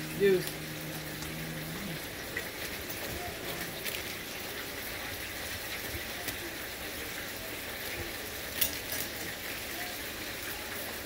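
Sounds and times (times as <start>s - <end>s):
grease sizzling and crackling: 0.0s - 11.0s.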